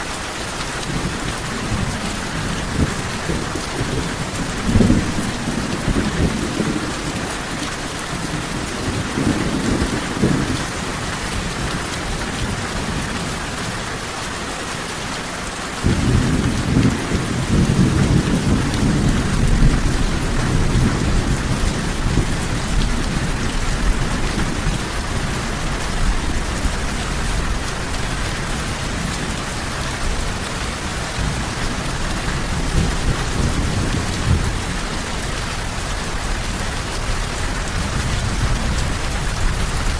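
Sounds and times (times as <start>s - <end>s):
steady rain falling: 0.0s - 39.9s
thunder rumbling: 0.8s - 13.1s, 15.8s - 39.9s.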